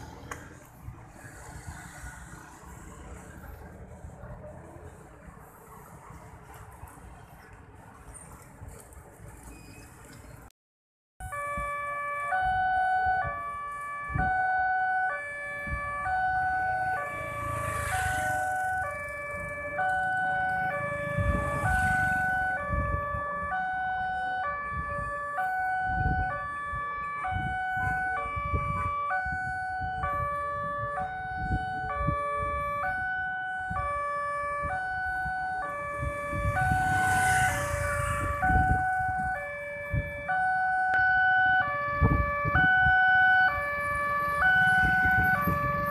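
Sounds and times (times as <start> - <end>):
motorbike and car engines: 0.0 - 10.5, 12.4 - 45.9.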